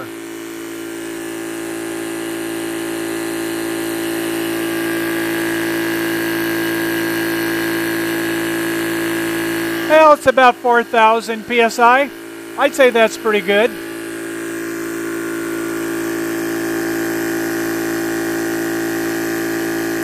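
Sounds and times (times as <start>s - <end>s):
electric compressor humming: 0.0s - 20.0s.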